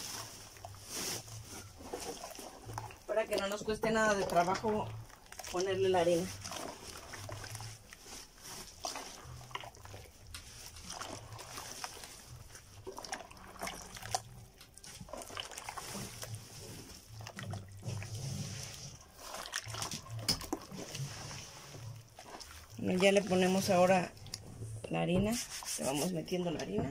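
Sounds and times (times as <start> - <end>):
hands squishing wet mixture: 0.0 - 26.9.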